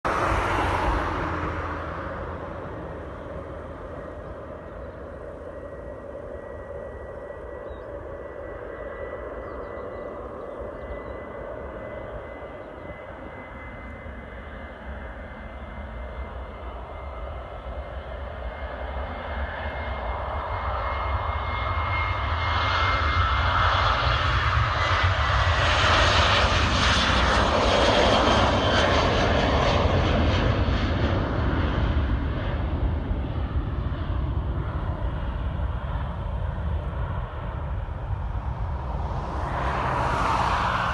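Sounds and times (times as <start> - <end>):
jet engines at takeoff power: 0.0 - 40.9.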